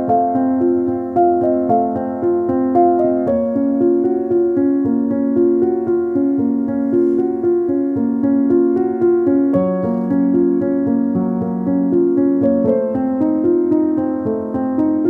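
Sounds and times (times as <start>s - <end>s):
piano-like keyboard music: 0.0s - 15.0s.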